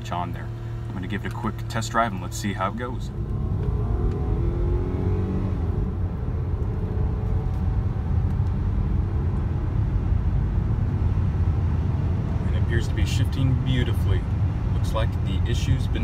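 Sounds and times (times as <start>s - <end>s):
car engine revving: 0.0s - 15.2s
road rumble: 0.0s - 16.0s.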